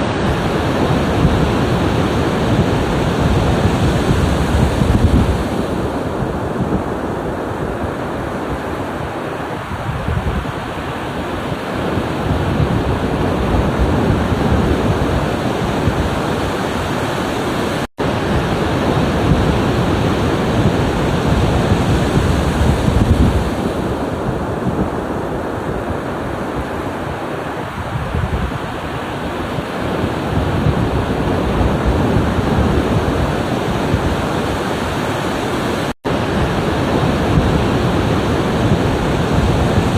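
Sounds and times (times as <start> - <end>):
ocean surf breaking on shore: 0.0 - 39.9
wind noise on microphone: 0.0 - 39.9.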